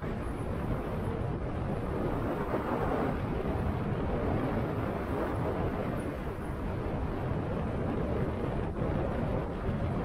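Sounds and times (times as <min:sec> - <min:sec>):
wind rushing on camera: 0:00.0 - 0:10.0.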